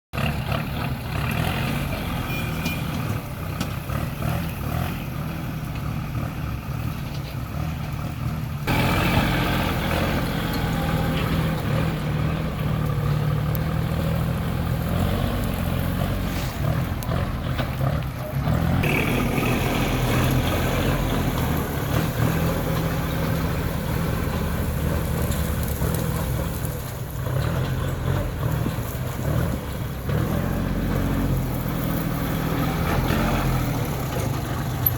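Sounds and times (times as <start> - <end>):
earthmoving machinery engine drone: 0.2 - 34.9.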